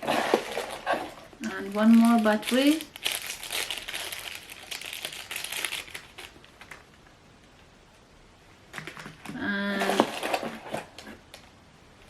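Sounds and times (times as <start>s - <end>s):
plastic packaging crinkling: 0.0s - 7.1s, 8.7s - 11.5s.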